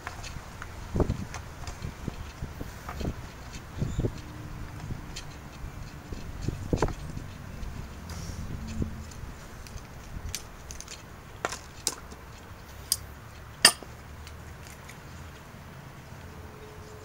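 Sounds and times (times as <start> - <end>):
sharp clicks and light knocks: 0.0 - 15.5.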